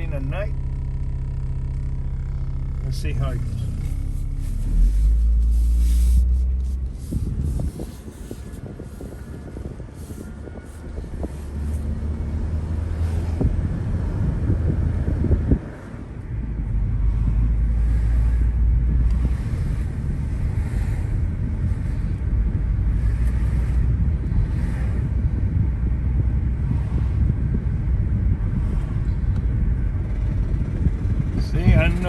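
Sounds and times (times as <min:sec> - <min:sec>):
car cabin road noise: 0:00.0 - 0:32.0.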